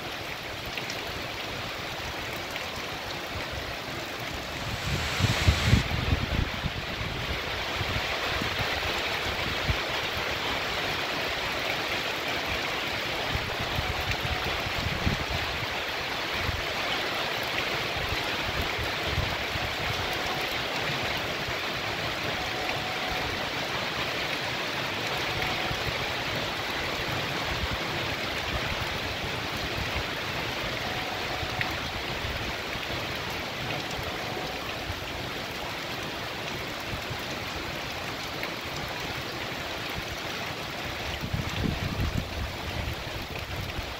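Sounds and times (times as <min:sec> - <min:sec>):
heavy rain pouring: 0:00.0 - 0:43.9
water running over street: 0:00.0 - 0:43.9.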